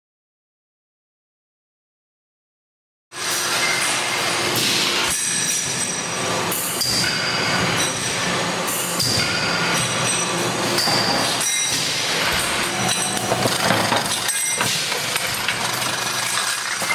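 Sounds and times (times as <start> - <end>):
machine clatter of metal parts: 3.2 - 16.9.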